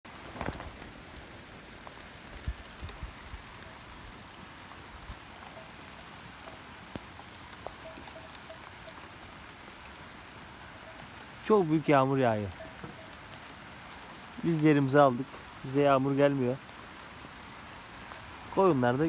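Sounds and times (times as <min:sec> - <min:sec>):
heavy rain falling: 0:00.1 - 0:19.0.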